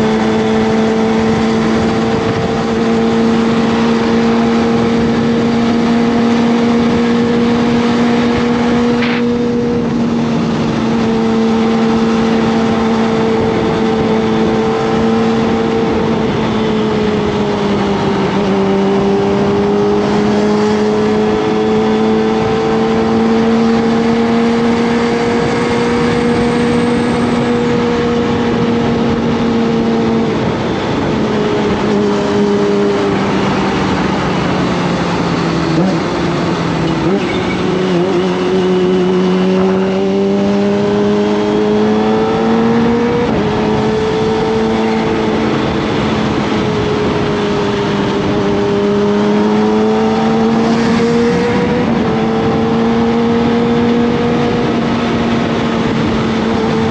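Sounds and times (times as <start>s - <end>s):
motorcycle engine running: 0.0s - 56.9s
road and wind noise: 0.0s - 56.9s.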